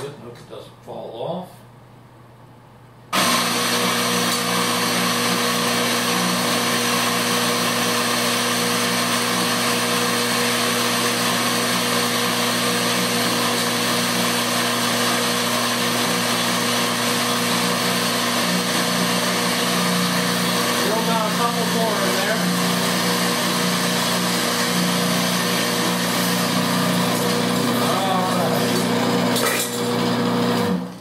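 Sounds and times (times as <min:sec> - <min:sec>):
coffee grinder grinding beans: 0:03.2 - 0:31.0.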